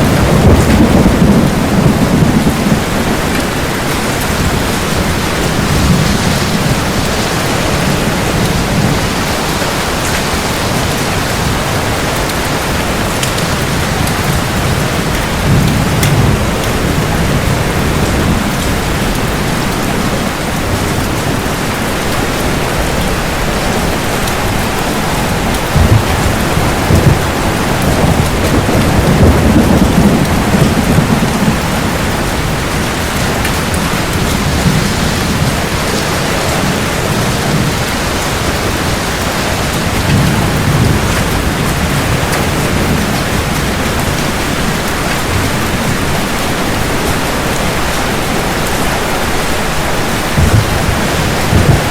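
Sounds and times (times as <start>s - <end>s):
sharp thunder cracks: 0.0s - 46.1s, 50.2s - 51.9s
heavy rain: 0.0s - 51.9s
thunder rumbling: 0.0s - 51.9s.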